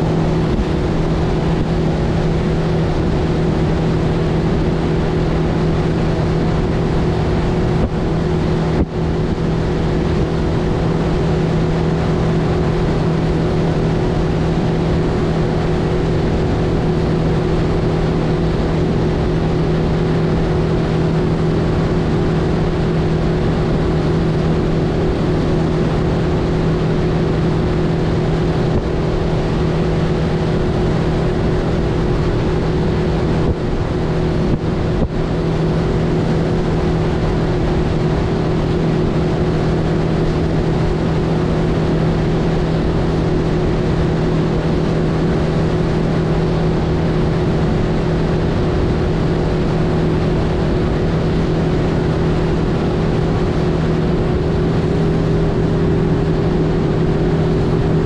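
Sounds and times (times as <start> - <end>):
outboard motor running: 0.0 - 58.0
rush of wind and water: 0.0 - 58.0.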